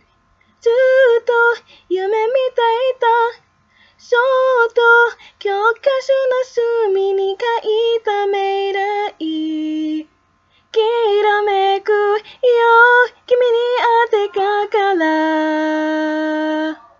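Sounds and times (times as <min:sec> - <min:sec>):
woman singing a cappella: 0:00.0 - 0:16.9.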